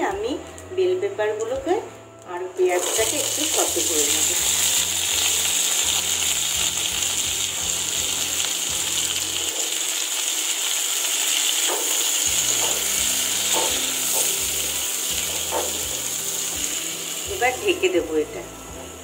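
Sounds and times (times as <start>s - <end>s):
vegetables sizzling in hot oil: 2.6s - 19.0s.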